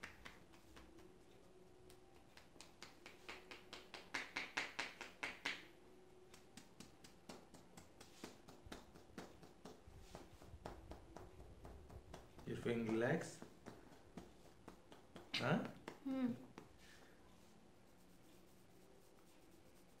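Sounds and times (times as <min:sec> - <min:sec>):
hands tapping on a head: 0:00.0 - 0:01.2, 0:01.8 - 0:17.2.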